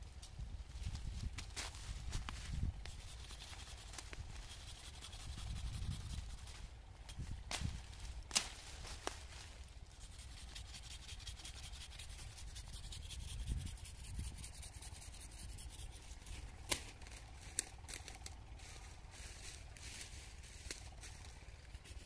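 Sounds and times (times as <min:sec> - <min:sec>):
low wind rumble: 0:00.0 - 0:22.0
rustling and rubbing: 0:00.8 - 0:07.0, 0:07.7 - 0:22.0.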